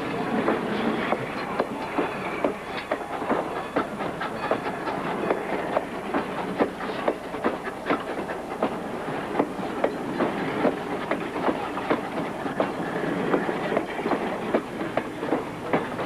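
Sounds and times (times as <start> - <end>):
train coaches rumbling: 0.0 - 16.0
wheels clicking over rail joints: 0.0 - 16.0.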